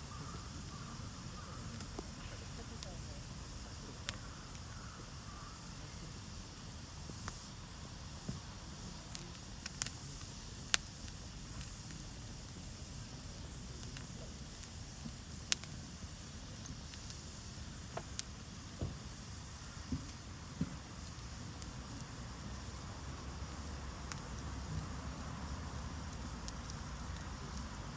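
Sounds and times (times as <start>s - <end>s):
campfire crackling and hissing: 0.0s - 27.9s.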